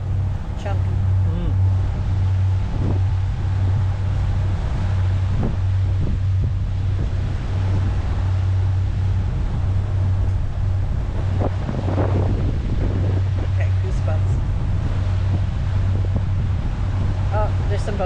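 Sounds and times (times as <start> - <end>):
motorboat engine drone: 0.0 - 18.0
wind buffeting microphone: 0.0 - 18.0.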